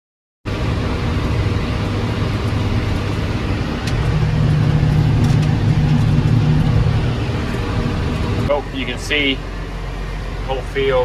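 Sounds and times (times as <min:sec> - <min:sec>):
tractor diesel engine running: 0:00.5 - 0:11.0.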